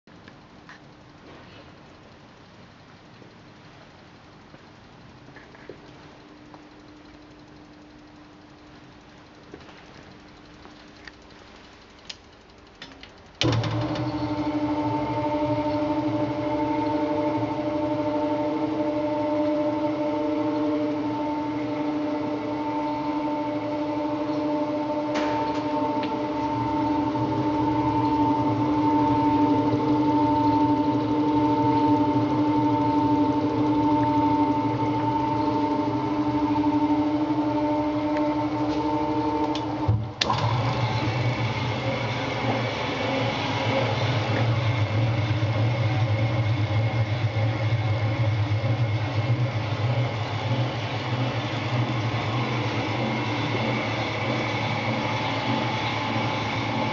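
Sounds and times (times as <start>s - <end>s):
mixer motor humming and whining: 5.2s - 56.9s.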